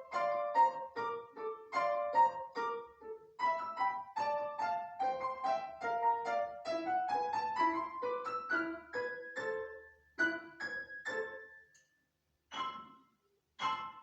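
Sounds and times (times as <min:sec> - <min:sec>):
solo piano notes: 0:00.0 - 0:11.7.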